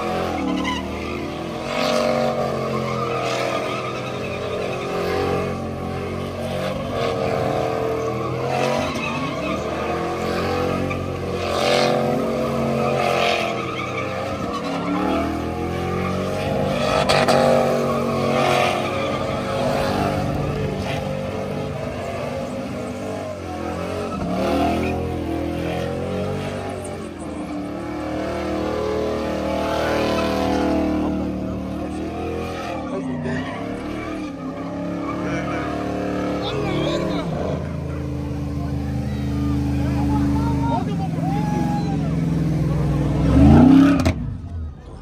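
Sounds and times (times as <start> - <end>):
truck engine revving: 0.0 - 45.0.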